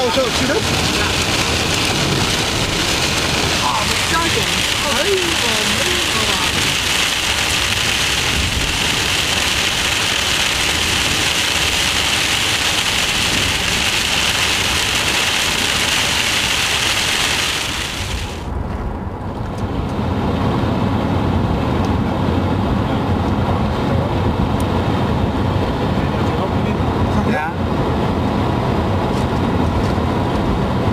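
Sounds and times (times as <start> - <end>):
car engine: 0.0 - 30.9
heavy rain on a car: 0.0 - 30.9
road noise: 0.0 - 30.9.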